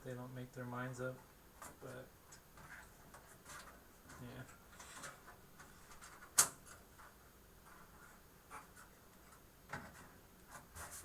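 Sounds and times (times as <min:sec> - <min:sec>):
small clicks and light scratching: 0:01.6 - 0:11.0.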